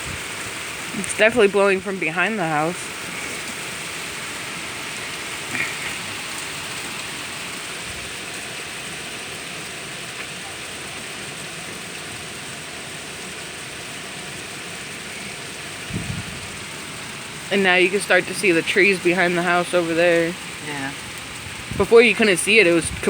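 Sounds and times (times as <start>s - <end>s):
heavy rain hissing: 0.0s - 23.0s
wind: 0.0s - 23.0s.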